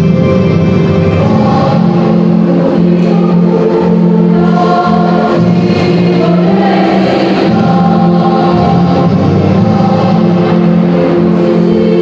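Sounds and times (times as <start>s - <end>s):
choir singing in parts: 1.0s - 12.0s.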